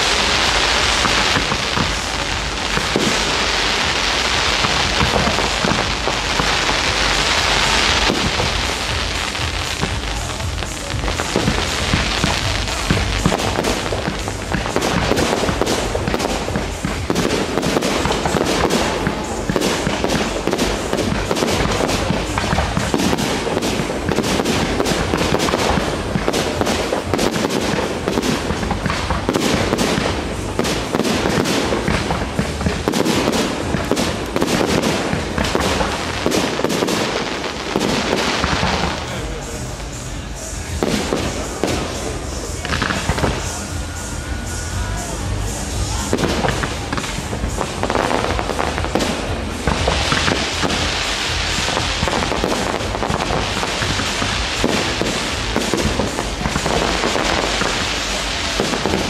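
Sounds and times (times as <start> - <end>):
fireworks bursting and crackling: 0.0 - 59.0
fireworks launching: 0.0 - 59.0.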